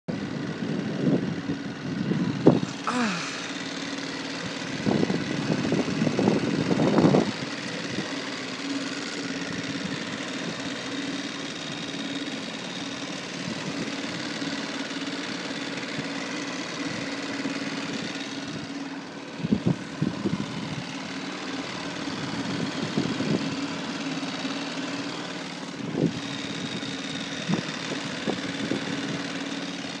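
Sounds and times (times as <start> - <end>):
boat engine humming: 0.1 - 30.0.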